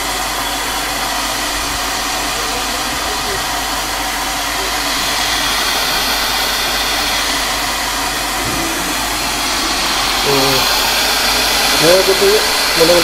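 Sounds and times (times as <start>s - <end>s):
electric kettle heating water: 0.0s - 13.0s.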